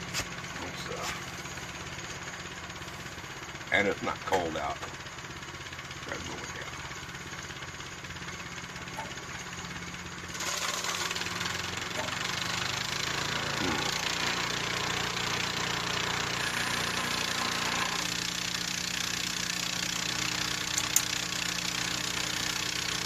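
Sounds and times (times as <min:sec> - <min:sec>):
small gas engine idling: 0:00.0 - 0:23.0.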